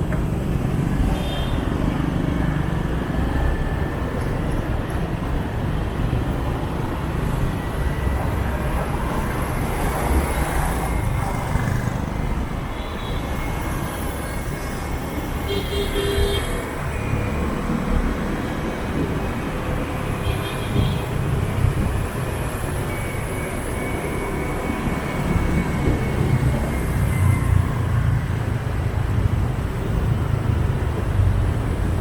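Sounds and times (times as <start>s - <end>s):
motorbike and scooter traffic: 0.0s - 32.0s.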